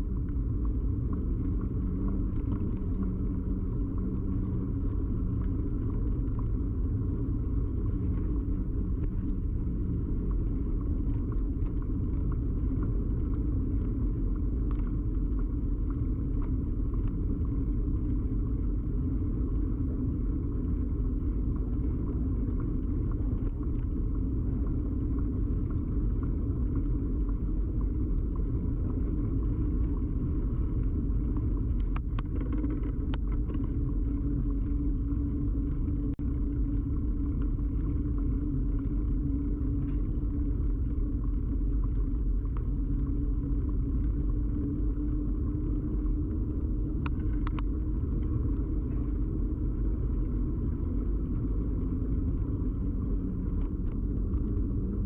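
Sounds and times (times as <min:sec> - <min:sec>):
bicycle rumble and hum: 0:00.0 - 0:55.0.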